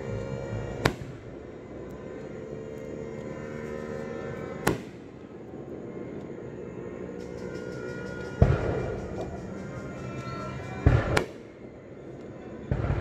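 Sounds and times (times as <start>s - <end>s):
steady drone with held tones: 0.0s - 13.0s.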